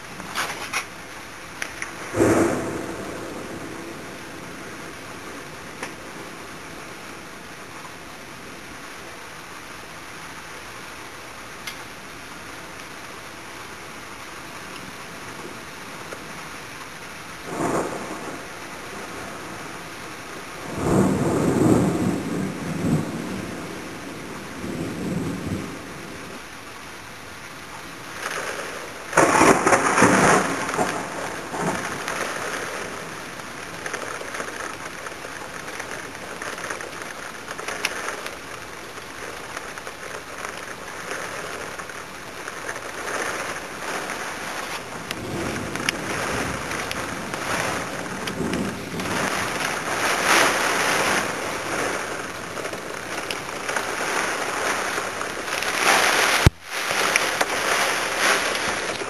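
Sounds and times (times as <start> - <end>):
heavy wind-driven rain: 0.0 - 59.0.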